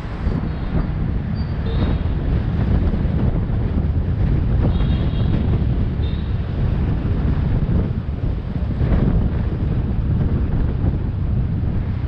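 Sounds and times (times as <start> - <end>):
city traffic: 0.0 - 12.0
wind buffeting microphone: 0.0 - 12.0.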